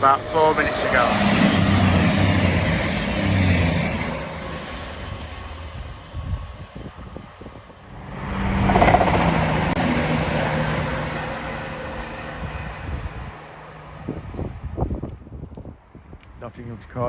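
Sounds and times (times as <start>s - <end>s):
diesel train passing: 0.0s - 15.2s.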